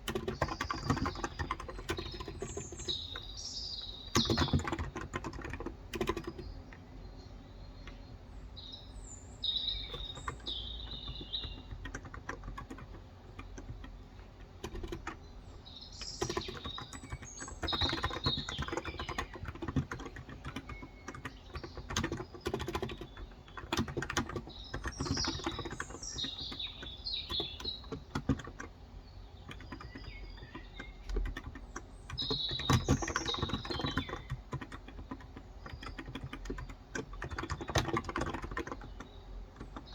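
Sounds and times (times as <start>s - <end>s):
typing on a keyboard: 0.0s - 6.9s, 9.6s - 39.9s
birds chirping: 0.0s - 39.9s.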